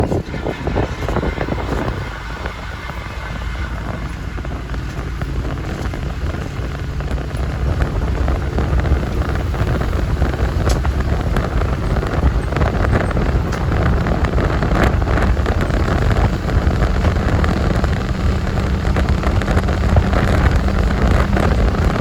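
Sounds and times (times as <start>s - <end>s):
vehicle rumbling: 0.0s - 22.0s
wind buffeting microphone: 0.0s - 22.0s.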